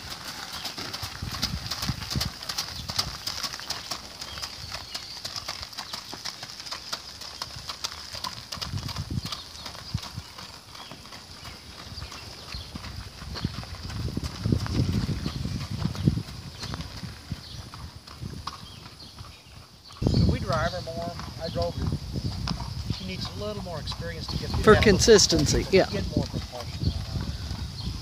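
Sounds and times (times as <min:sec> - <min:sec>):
cart wheels crunching over gravel: 0:00.0 - 0:28.0
hooves clip-clopping on gravel: 0:00.0 - 0:28.0.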